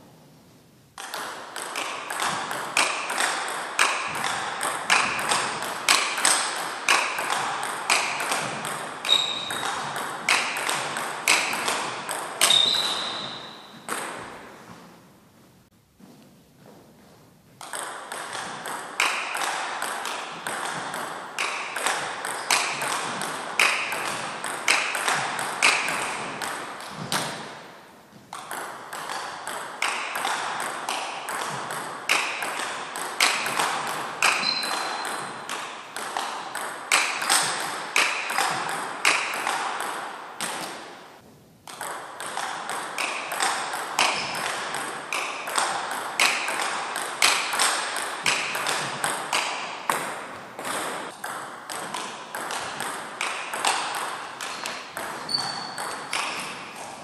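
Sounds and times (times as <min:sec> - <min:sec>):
ball bouncing on table: 0:01.0 - 0:14.4, 0:17.6 - 0:27.5, 0:28.3 - 0:40.8, 0:41.7 - 0:57.0
ball cracking off bats: 0:01.0 - 0:15.0, 0:17.6 - 0:57.0.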